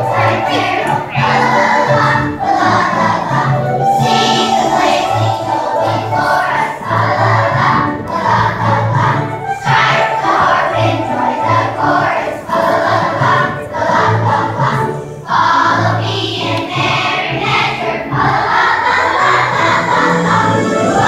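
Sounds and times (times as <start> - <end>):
children's choir singing: 0.0 - 21.0
low instrumental accompaniment: 0.0 - 21.0.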